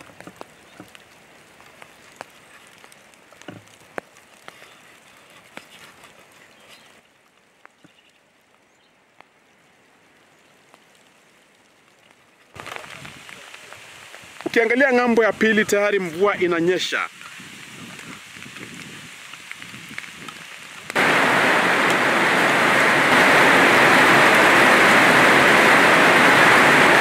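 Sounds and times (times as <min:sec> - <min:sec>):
raindrop ticks: 0:00.0 - 0:21.1, 0:21.7 - 0:22.5
light rain hiss: 0:00.0 - 0:27.0.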